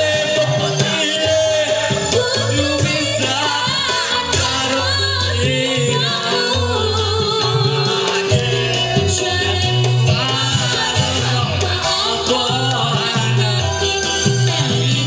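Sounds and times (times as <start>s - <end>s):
backing music with bass line: 0.0s - 15.0s
woman singing with vibrato: 0.0s - 15.0s.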